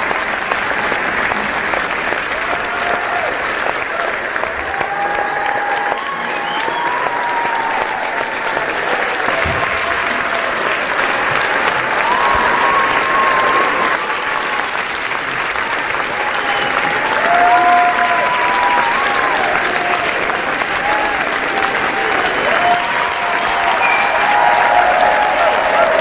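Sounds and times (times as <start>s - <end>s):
audience cheering: 0.0s - 26.0s
crowd applauding: 0.0s - 26.0s.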